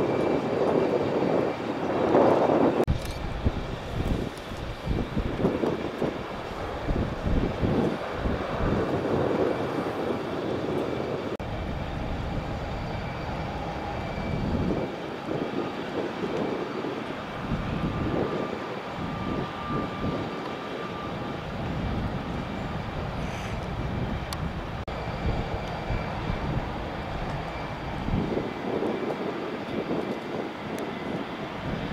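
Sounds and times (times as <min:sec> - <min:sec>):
aircraft engines rumbling: 0:00.0 - 0:31.9.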